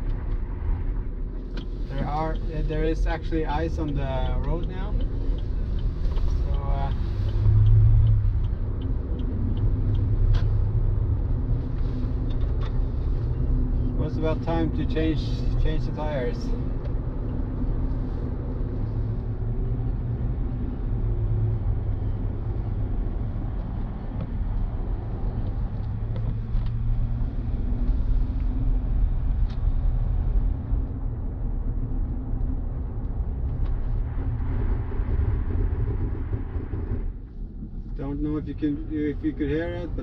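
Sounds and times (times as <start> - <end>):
low road rumble: 0.0 - 40.0.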